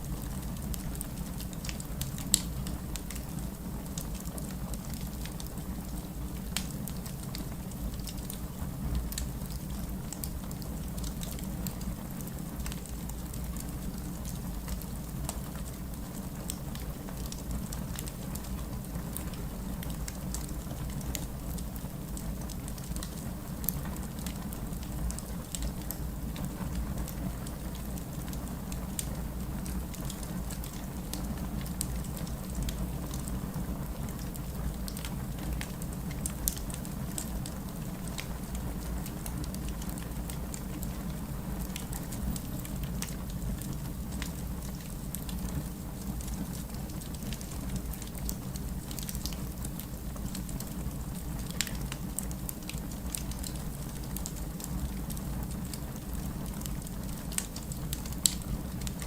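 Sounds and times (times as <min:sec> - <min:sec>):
steady rain: 0:00.0 - 0:59.0
fireplace crackling: 0:00.1 - 0:59.0.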